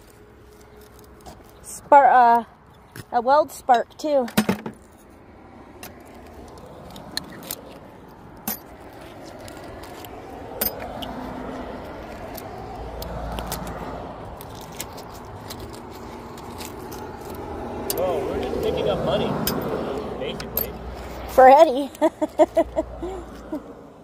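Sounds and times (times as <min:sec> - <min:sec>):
vehicle road noise rumble: 0:00.0 - 0:24.0.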